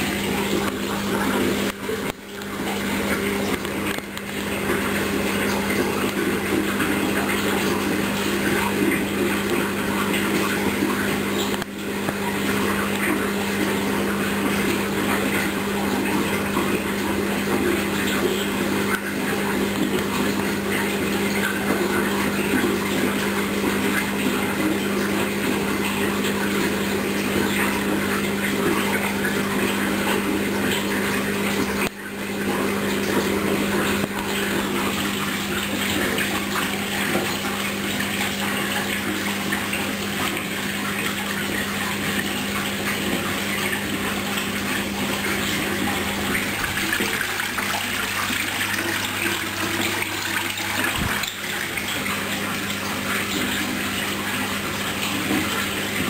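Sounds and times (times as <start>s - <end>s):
water rushing through washing machine: 0.0s - 56.0s.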